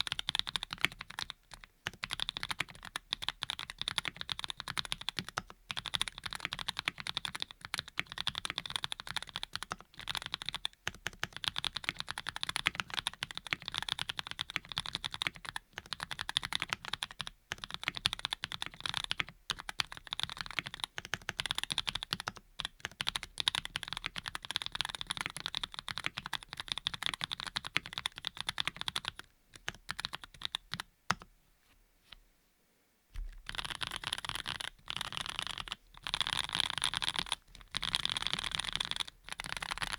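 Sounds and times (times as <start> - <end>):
fast typing on mechanical keyboard: 0.0 - 31.2, 33.5 - 39.9.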